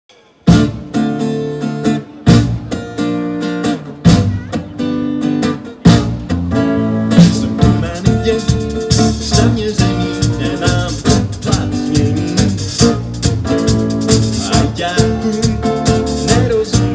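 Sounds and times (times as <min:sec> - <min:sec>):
live band playing: 0:00.2 - 0:16.9.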